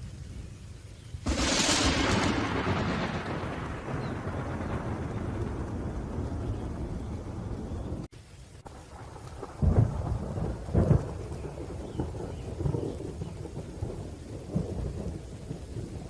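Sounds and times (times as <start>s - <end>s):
steady rain: 0.0s - 16.0s
rolling thunder: 1.2s - 16.0s
loud thunder claps: 1.3s - 8.1s, 9.0s - 16.0s.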